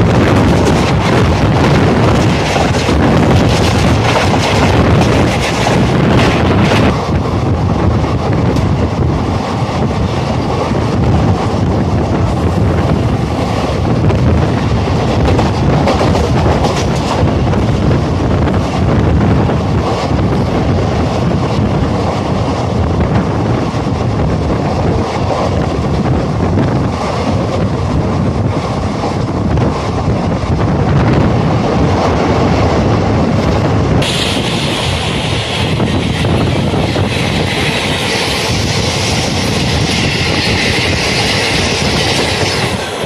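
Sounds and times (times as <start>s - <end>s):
train wheels rumbling on rail: 0.0s - 43.0s
wind buffeting the microphone: 0.0s - 43.0s.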